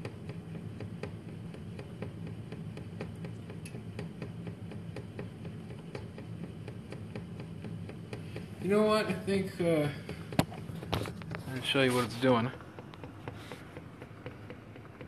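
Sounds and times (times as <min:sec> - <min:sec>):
pot ticking and rattling: 0:00.0 - 0:15.0.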